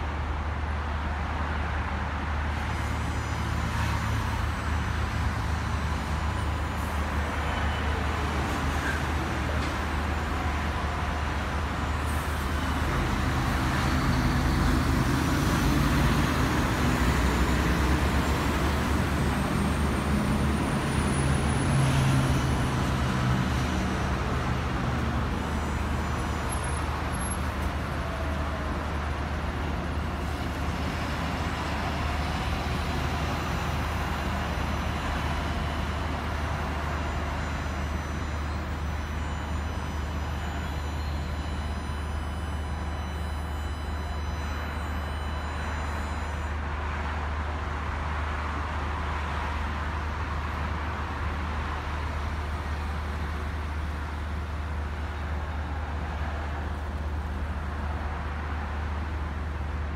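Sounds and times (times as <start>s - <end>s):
city road traffic: 0.0s - 59.9s.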